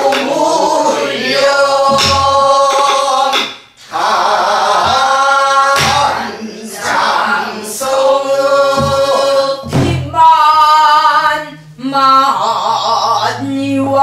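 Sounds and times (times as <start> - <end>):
man and woman singing: 0.0 - 14.0.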